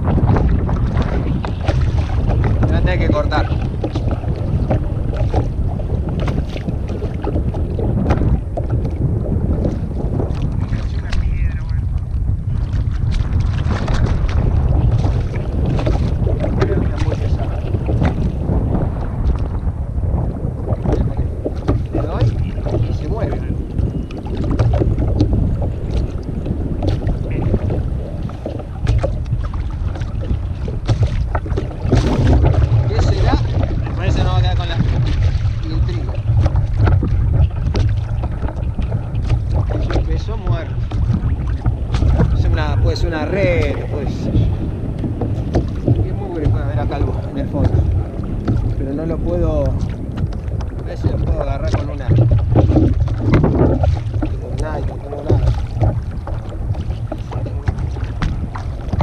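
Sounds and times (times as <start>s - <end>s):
water knocking on kayak hull: 0.0s - 59.0s
wind noise on microphone: 0.0s - 59.0s.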